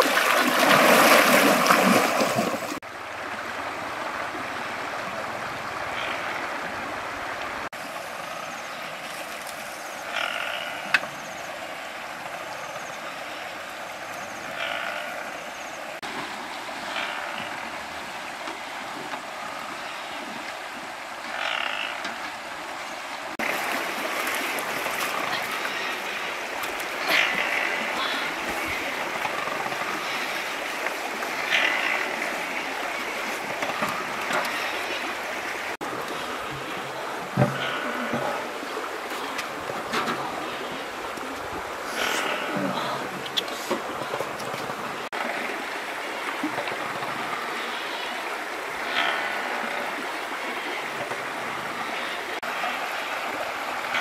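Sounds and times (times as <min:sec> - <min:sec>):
water splashing from wading: 0:00.0 - 0:08.1, 0:16.0 - 0:54.0
river water rushing: 0:00.0 - 0:54.0.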